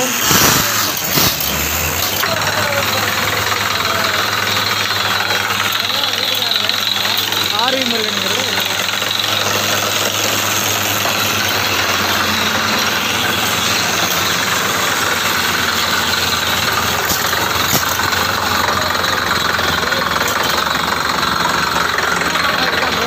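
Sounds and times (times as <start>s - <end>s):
drilling rig droning: 0.0s - 23.0s.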